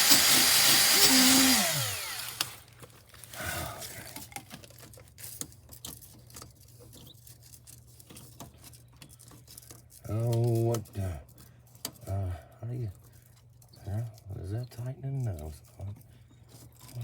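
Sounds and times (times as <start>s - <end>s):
hand tools clicking and scraping: 0.0s - 17.0s.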